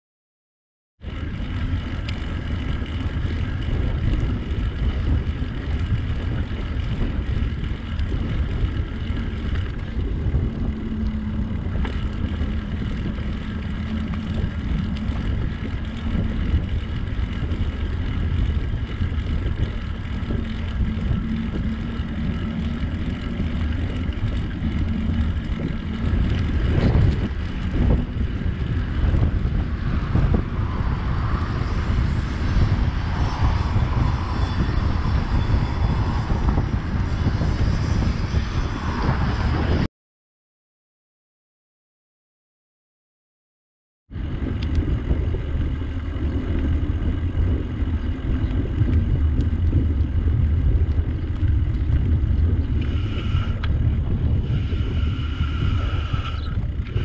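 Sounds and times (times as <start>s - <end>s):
bicycle rolling noise: 1.0s - 39.9s, 44.1s - 57.0s
wind rumbling on microphone: 1.0s - 39.9s, 44.1s - 57.0s
faint steady whine: 1.1s - 39.8s, 44.2s - 57.0s.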